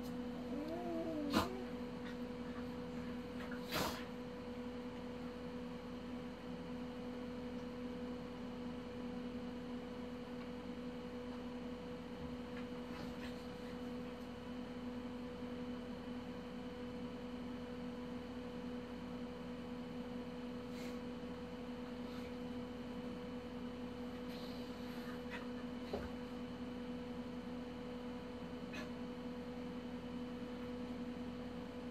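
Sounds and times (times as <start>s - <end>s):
low electrical hum: 0.0s - 31.9s.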